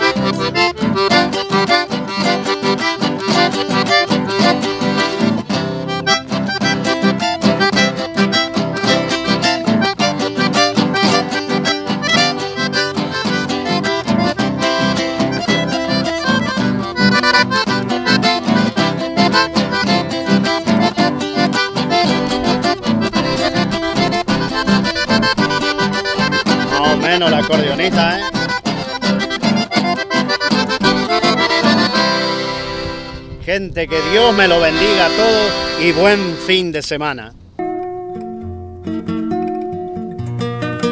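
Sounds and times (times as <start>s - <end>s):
accordion melody: 0.0s - 40.2s
held chords over bass line: 0.0s - 40.9s.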